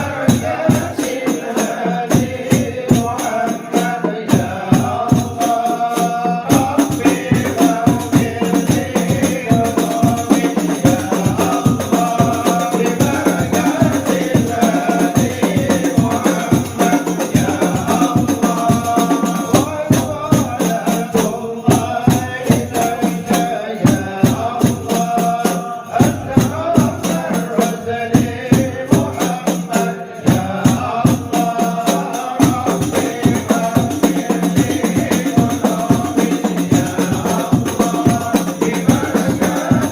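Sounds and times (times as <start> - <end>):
frame drums and jingles: 0.0 - 39.9
group chanting: 0.0 - 39.9.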